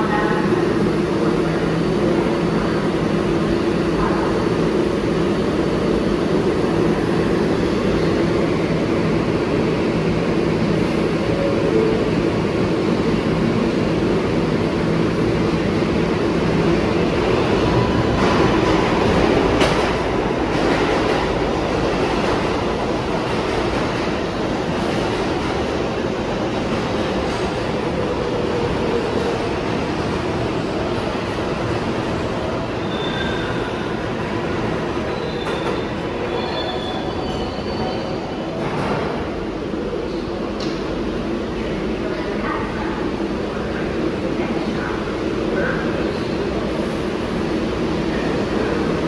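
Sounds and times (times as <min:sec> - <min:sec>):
subway train rumble: 0:00.0 - 0:49.0.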